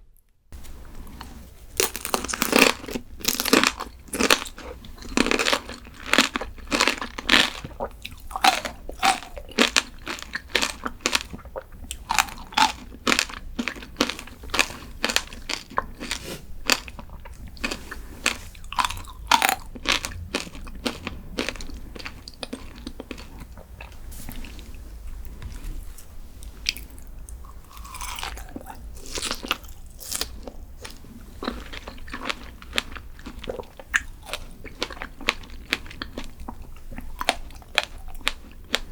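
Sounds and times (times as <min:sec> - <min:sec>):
crunchy food chewing: 0:01.1 - 0:38.9.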